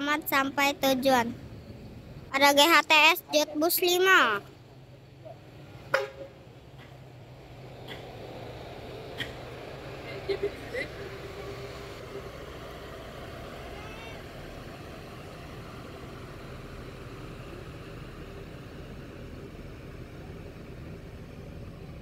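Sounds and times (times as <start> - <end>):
bus terminal background noise: 0.0 - 22.0
diesel bus engine rumbling: 0.0 - 22.0.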